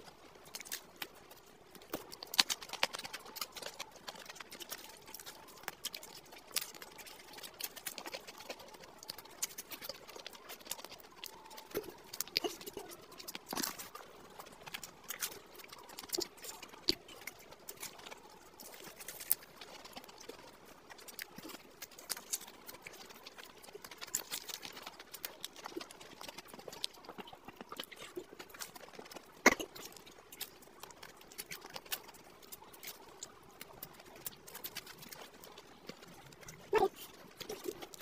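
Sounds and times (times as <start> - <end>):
crunching while eating: 0.0 - 38.0.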